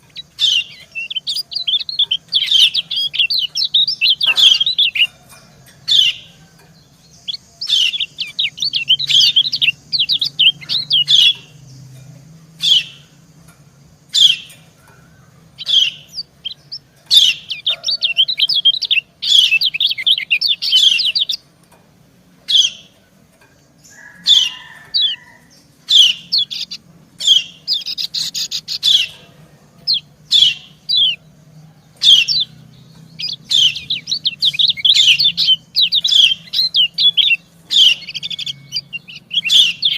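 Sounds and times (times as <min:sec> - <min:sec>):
bird high chirps: 0:00.0 - 0:21.8, 0:22.4 - 0:39.9
faint low hum: 0:00.0 - 0:39.9.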